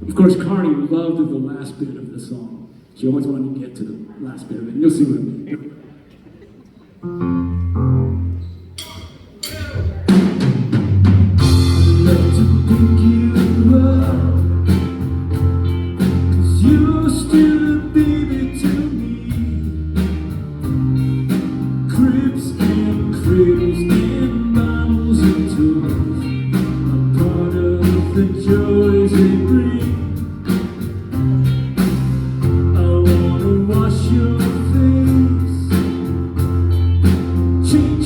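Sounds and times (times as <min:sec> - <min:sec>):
pop-rock band playing: 0:07.2 - 0:38.0.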